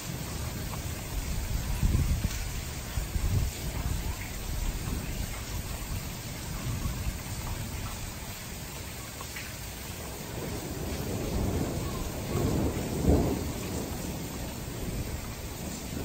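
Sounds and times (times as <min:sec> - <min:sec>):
thunder rumbling: 0:00.0 - 0:08.6, 0:10.0 - 0:16.0
rain hiss: 0:00.0 - 0:16.0.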